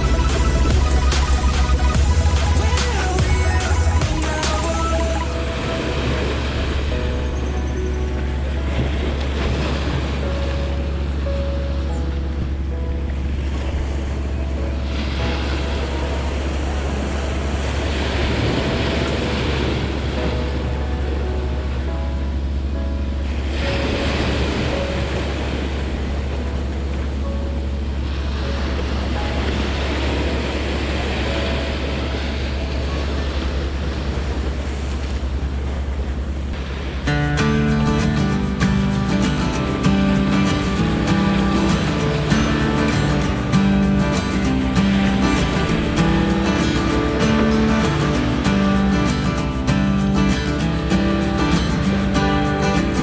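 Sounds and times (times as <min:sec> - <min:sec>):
water washing at shore: 0:00.0 - 0:11.0, 0:13.2 - 0:20.8, 0:27.9 - 0:53.0.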